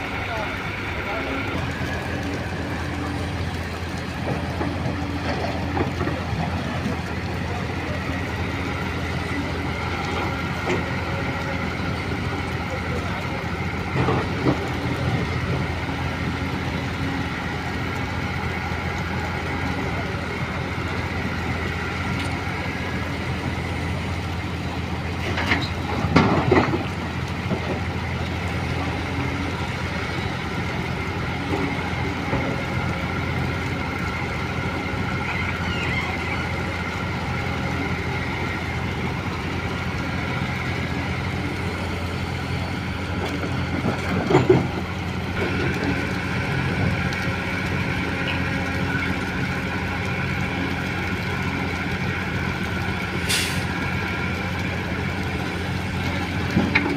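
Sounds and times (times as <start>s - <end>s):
truck engine humming: 0.0s - 56.9s.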